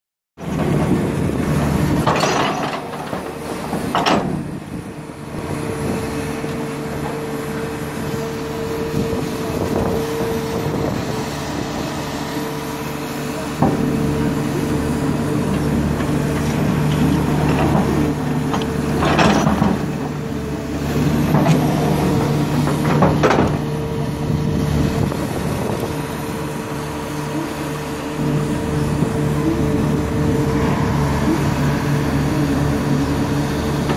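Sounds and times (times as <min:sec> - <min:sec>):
excavator diesel engine running: 0:00.4 - 0:33.9.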